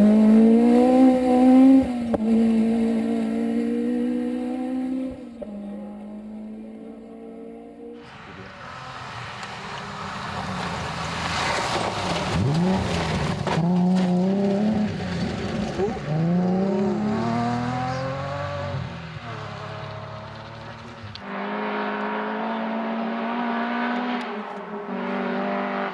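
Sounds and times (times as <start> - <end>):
rally car engine revving past: 0.0 - 25.9.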